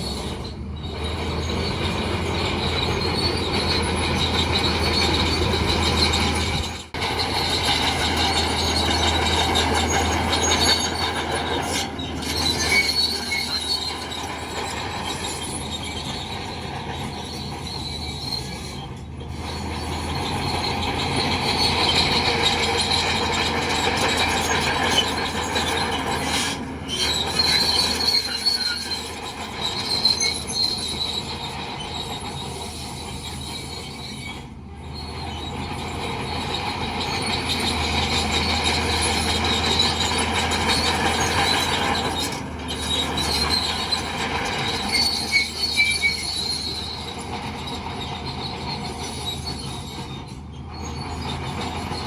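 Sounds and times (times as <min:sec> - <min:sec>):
diesel engine under load: 0:00.0 - 0:52.0
steel tracks squealing and clanking: 0:00.0 - 0:52.0.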